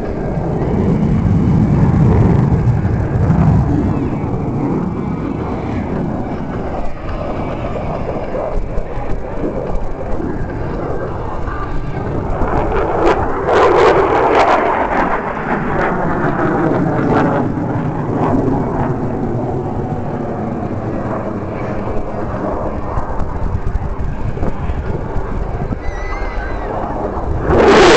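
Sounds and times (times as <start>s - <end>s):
fighter jet passing overhead: 0.0s - 27.9s.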